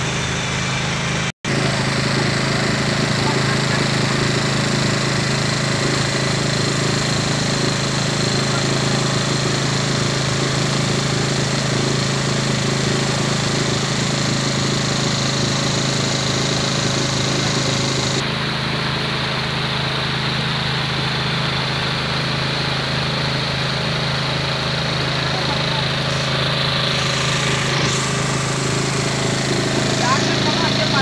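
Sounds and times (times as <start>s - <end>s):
motorboat engine running: 0.0s - 31.0s.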